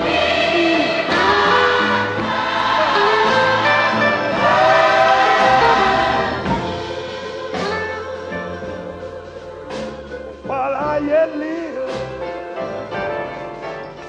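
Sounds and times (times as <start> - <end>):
gospel choir singing: 0.0 - 13.6.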